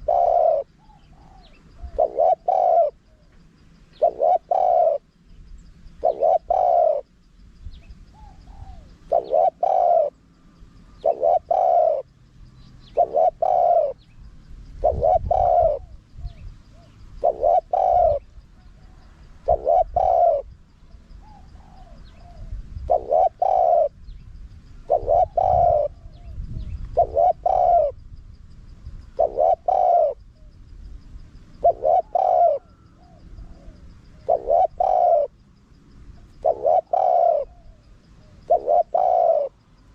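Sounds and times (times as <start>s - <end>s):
dove cooing: 0.0s - 7.2s, 7.8s - 28.0s, 29.0s - 30.8s, 31.5s - 35.4s, 36.2s - 39.9s.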